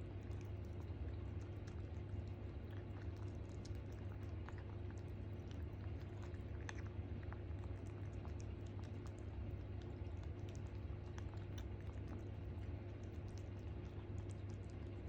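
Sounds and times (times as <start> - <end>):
kitten chewing: 0.0 - 15.0
steady low hum: 0.0 - 15.0.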